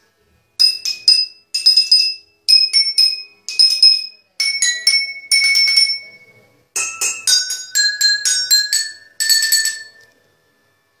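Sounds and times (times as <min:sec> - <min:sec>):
water glasses and bowls struck: 0:00.6 - 0:10.1.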